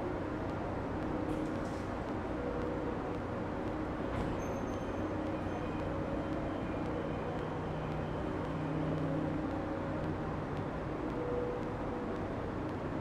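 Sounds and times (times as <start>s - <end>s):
train low rumble and hum: 0.0s - 13.0s.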